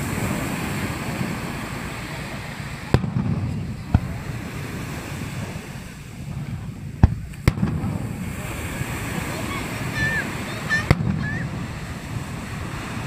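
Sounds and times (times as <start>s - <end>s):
surf rushing: 0.0s - 13.0s
fireworks bangs: 1.0s - 13.0s.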